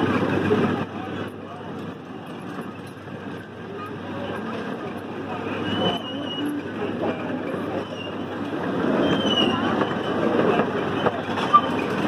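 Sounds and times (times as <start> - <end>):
train cars rumbling on track: 0.0 - 12.0.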